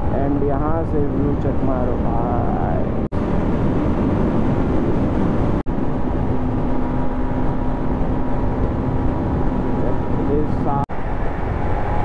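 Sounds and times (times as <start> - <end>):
wind rush over microphone: 0.0 - 12.0.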